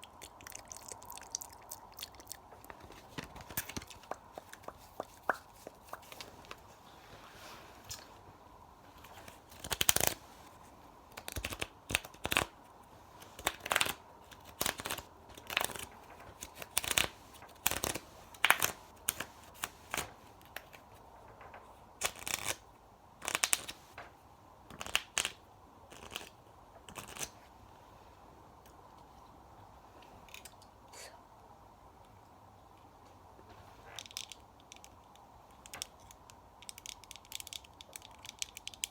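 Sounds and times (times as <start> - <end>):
crisp clicks and crackles: 0.0 - 27.4, 33.8 - 38.9.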